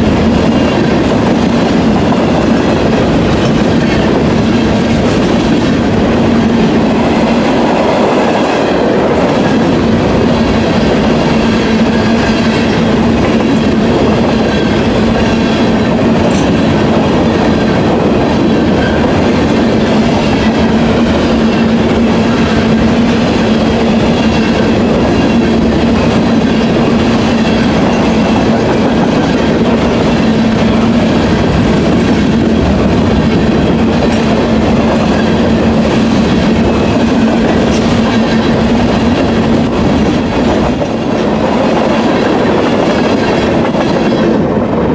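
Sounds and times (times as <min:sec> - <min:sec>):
freight train wheels rolling on rails: 0:00.0 - 0:44.9.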